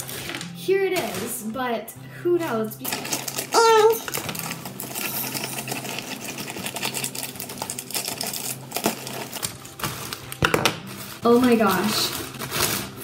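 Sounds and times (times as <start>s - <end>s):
scissors snipping plastic bag: 0.0s - 1.5s, 2.8s - 13.0s.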